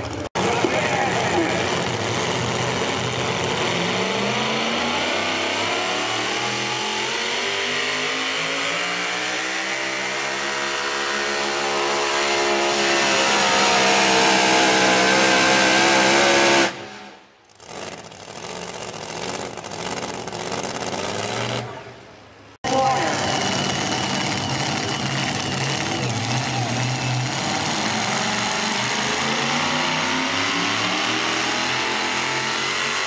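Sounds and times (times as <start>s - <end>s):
pulling truck engine at full throttle: 0.0s - 33.0s.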